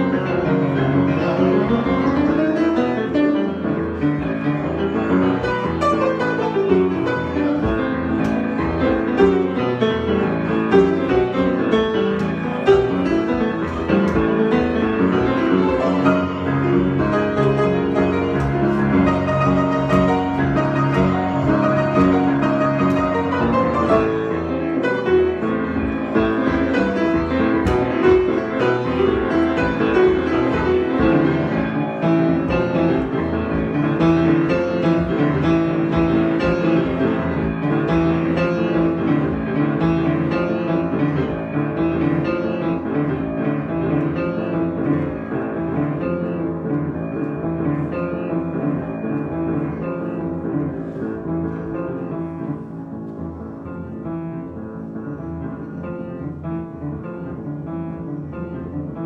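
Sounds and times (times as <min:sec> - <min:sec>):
piano improvisation: 0:00.0 - 0:59.0.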